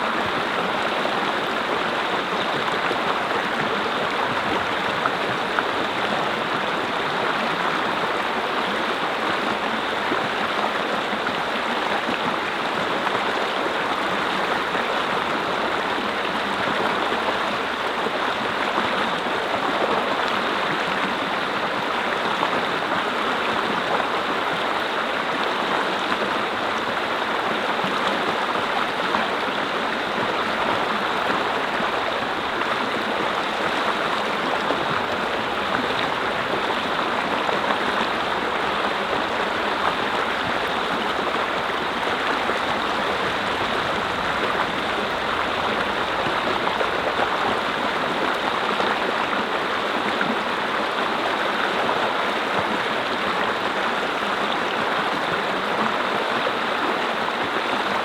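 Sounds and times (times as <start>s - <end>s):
brook flowing over rocks: 0.0s - 58.0s.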